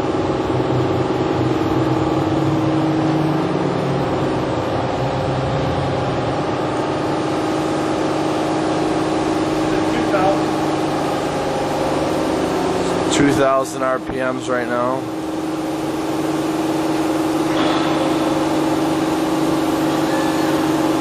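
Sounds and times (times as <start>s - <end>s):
machining center humming: 0.0s - 21.0s.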